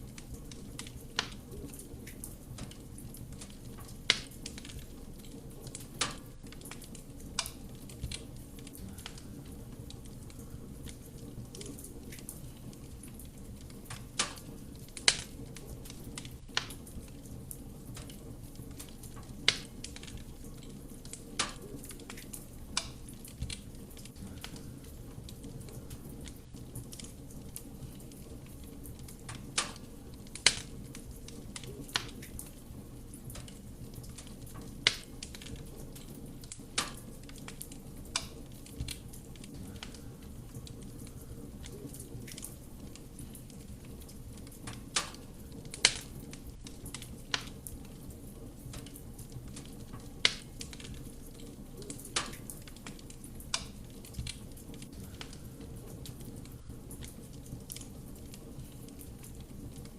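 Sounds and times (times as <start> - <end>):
fire flames rumbling: 0.0 - 59.9
wood crackling and popping: 0.0 - 59.9.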